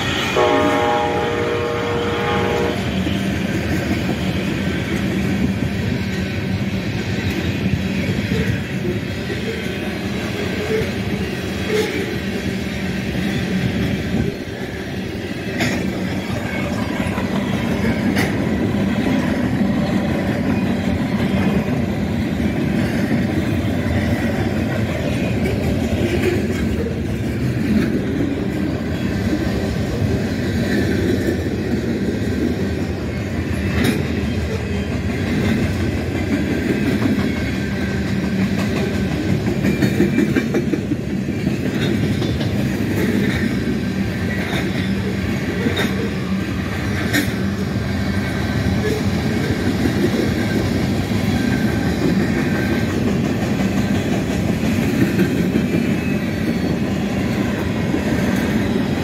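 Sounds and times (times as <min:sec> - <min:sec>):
freight train cars rumbling: 0:00.0 - 0:59.0.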